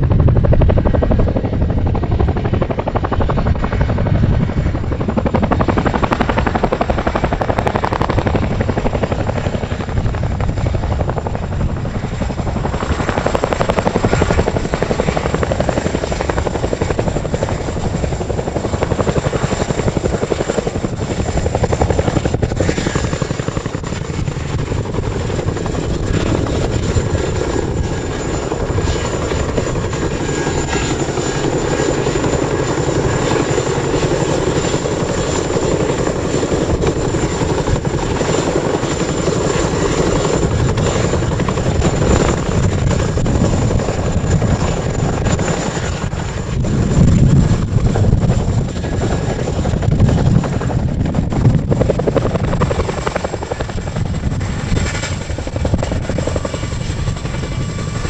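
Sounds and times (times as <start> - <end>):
helicopter rotor beat: 0.0 - 58.0.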